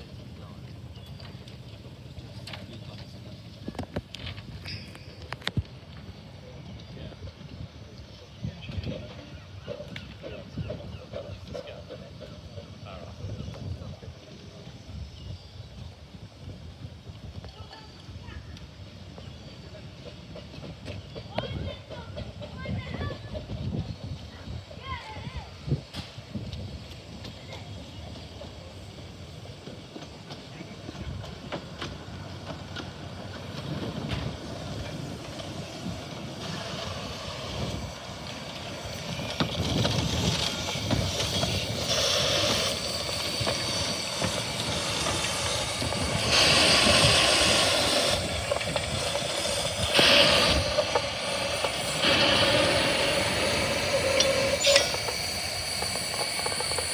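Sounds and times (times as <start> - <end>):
steam locomotive rumble and knocking: 0.0 - 56.9
steam hissing: 10.1 - 56.9.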